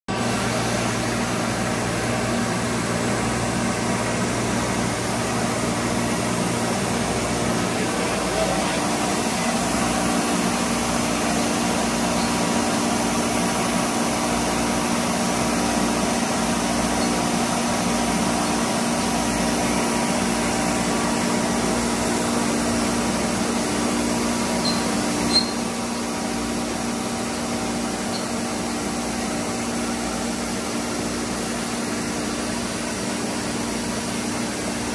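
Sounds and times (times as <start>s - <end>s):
cnc router whirring: 0.2s - 32.8s.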